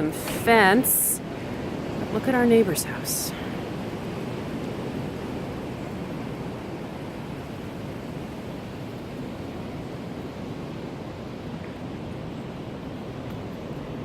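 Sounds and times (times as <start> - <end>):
wind blowing steadily: 0.0 - 14.0.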